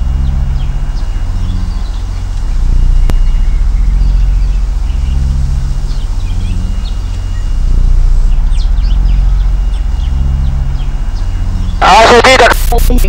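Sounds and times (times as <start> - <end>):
faint steady high tone: 0.0 - 12.9
loud pulsing low drone: 0.0 - 13.0.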